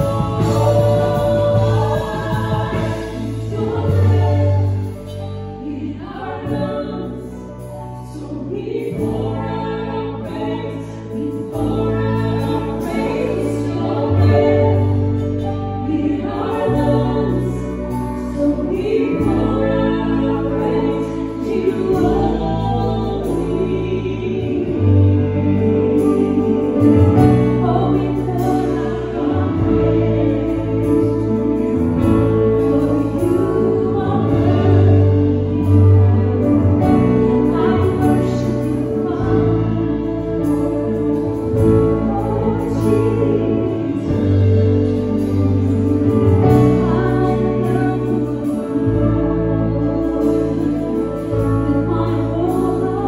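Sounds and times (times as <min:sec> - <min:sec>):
drums: 0:00.0 - 0:53.0
keyboard chords: 0:00.0 - 0:53.0
voices singing together: 0:00.0 - 0:53.0.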